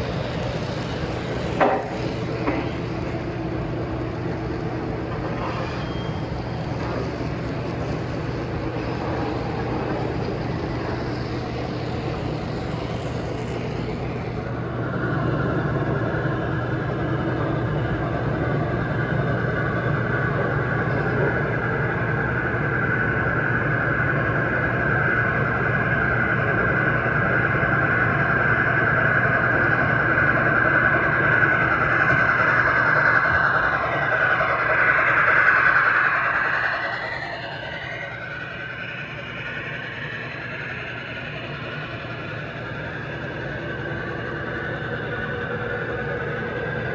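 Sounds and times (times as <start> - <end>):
model trains running on track: 0.0 - 46.9.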